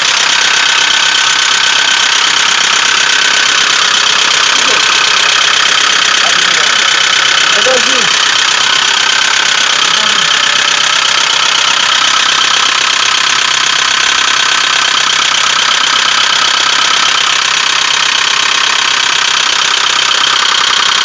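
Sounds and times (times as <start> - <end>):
car engine running: 0.0 - 21.0
rapid engine knocking: 0.0 - 21.0.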